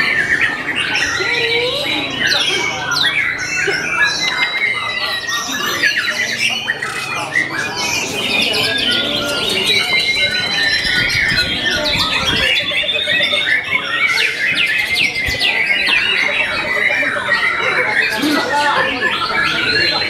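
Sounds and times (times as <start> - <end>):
birds singing in chorus: 0.0 - 20.0.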